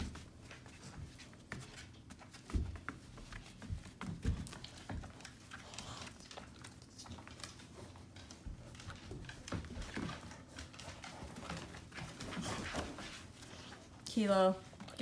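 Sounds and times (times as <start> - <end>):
dog paws and claws pattering: 0.0 - 15.0.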